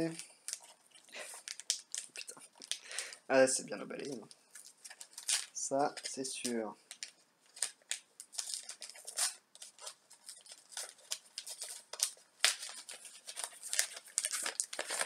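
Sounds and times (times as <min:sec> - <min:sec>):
packaging crinkling and rustling: 0:00.0 - 0:03.3, 0:03.9 - 0:15.0.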